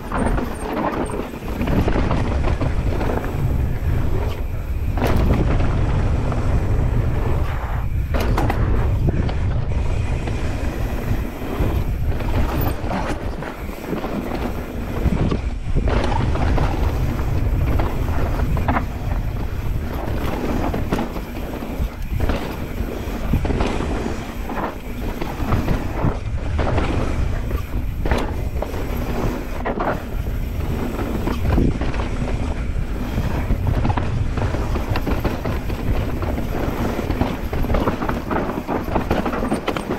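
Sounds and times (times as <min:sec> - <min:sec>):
bike knocks and rattles: 0:00.0 - 0:39.9
tyres running over dirt: 0:00.0 - 0:39.9
wind buffeting microphone: 0:00.0 - 0:39.9.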